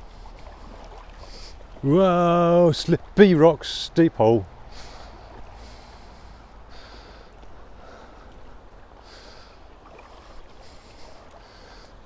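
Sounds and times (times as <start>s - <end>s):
water sloshing around legs: 0.0s - 3.2s, 4.5s - 12.0s.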